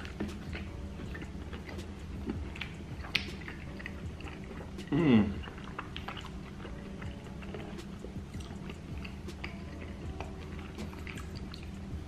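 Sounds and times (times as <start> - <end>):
low steady hum: 0.0 - 12.0
wet chewing mouth sounds: 0.0 - 12.0.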